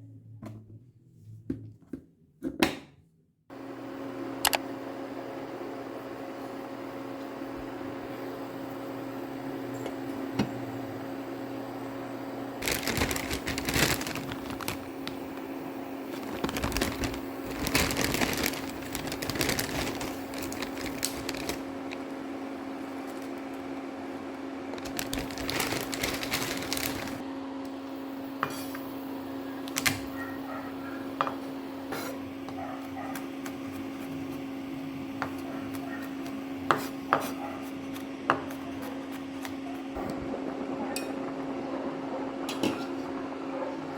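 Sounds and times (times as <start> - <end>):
appliance hum: 3.5 - 43.9.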